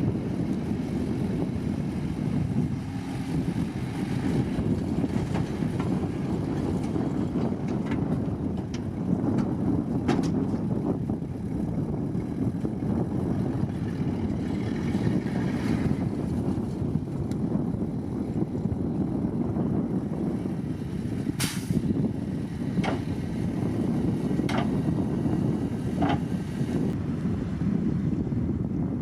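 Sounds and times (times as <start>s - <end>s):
diesel engines rumbling: 0.0s - 29.0s.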